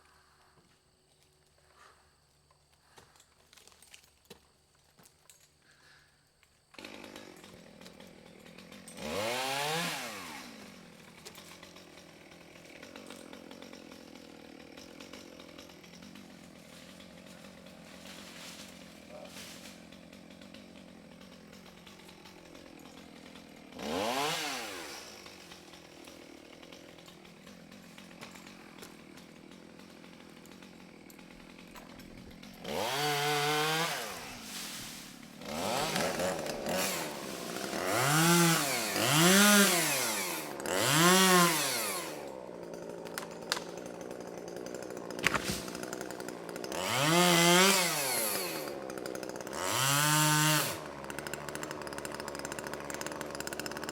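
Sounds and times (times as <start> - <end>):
chainsaw idling and revving: 6.6 - 53.9.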